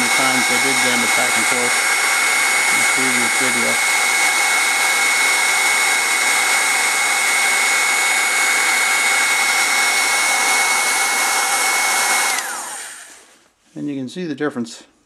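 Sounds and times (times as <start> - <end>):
fan motor whine: 0.0 - 13.2
heat gun blowing hiss: 0.0 - 13.3.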